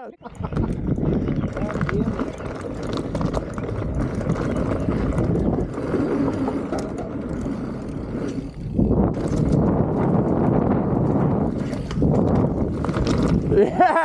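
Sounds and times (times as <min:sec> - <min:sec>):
bike rattling clicks: 0:00.2 - 0:14.0
wind over microphone: 0:00.2 - 0:14.0.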